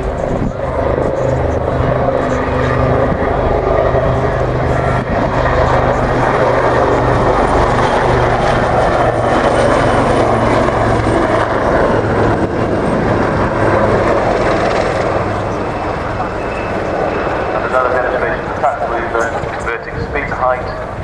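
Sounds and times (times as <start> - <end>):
helicopter rotor and turbine noise: 0.0 - 21.0.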